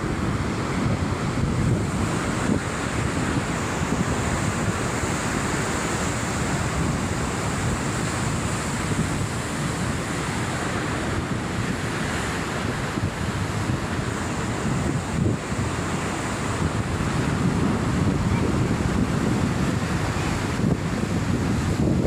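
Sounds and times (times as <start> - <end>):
sea surf washing in: 0.0 - 22.0
wind rumbling on microphone: 0.0 - 22.0.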